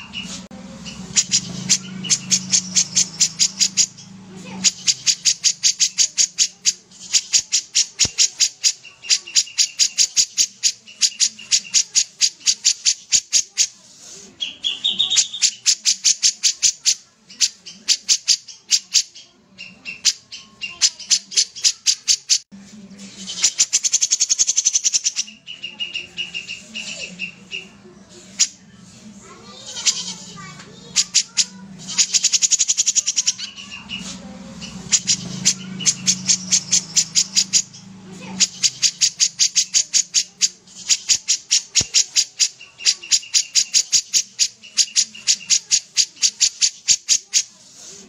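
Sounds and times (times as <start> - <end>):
bulbul singing: 0.0 - 48.0.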